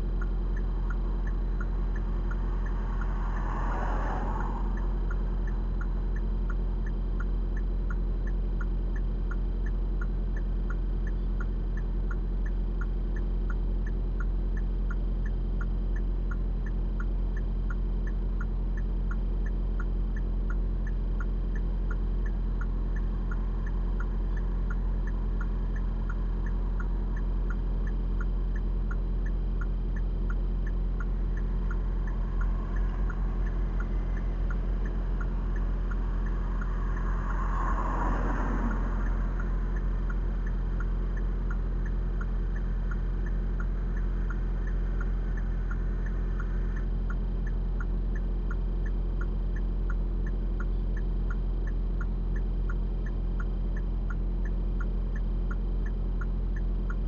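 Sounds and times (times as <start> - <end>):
idling car rumble: 0.0 - 57.0
turn signal ticking: 0.0 - 57.0.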